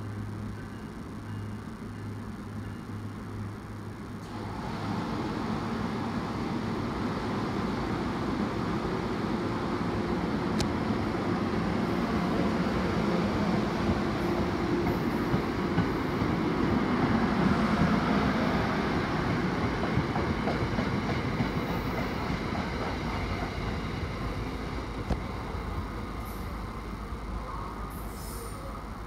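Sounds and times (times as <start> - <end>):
train cars rumbling on rails: 4.2 - 29.0.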